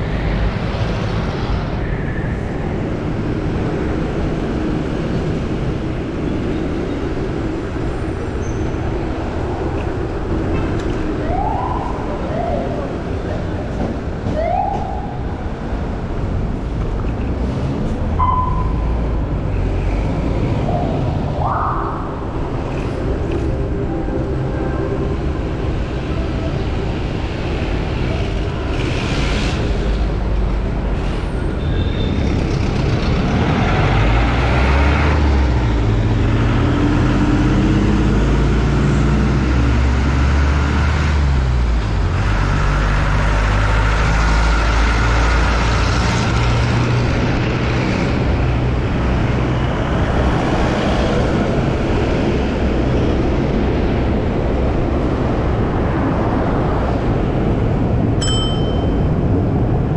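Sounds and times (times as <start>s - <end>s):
heavy road traffic: 0.0s - 59.9s
large vehicle engines rumbling: 0.0s - 59.9s.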